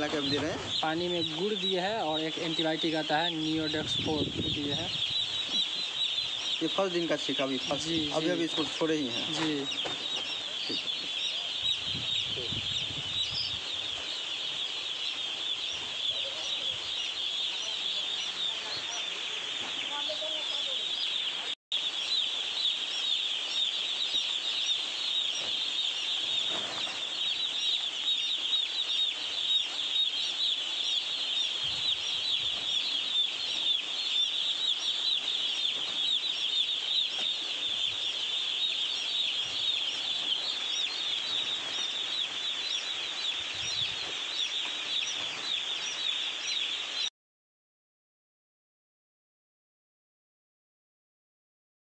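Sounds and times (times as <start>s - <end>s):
chicks peeping: 0.0s - 47.1s.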